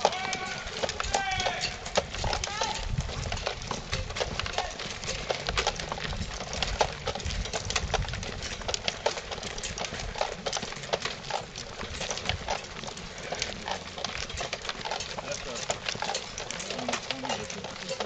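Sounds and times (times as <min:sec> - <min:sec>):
crowd footsteps on gravel: 0:00.0 - 0:18.0.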